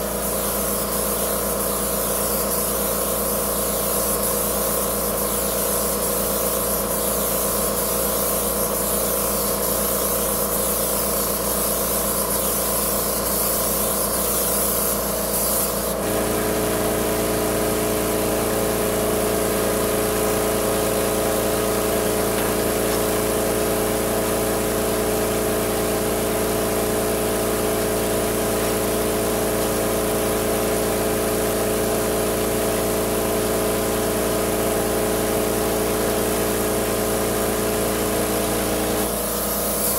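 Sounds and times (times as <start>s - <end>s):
paint sprayer hissing: 0.0s - 39.9s.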